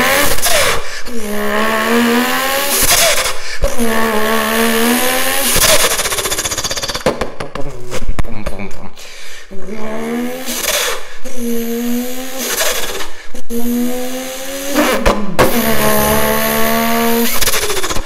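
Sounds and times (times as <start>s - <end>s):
man imitating engine revs: 0.0s - 6.6s, 7.8s - 18.0s.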